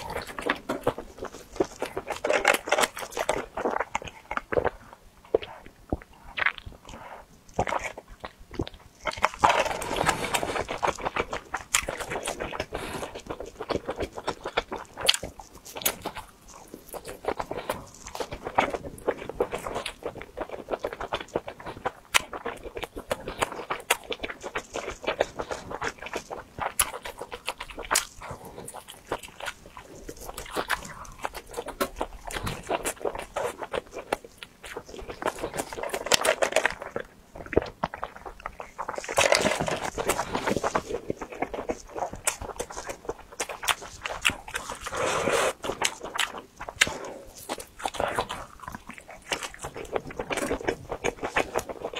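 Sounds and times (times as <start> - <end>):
chewing crispy food: 0.0 - 51.9.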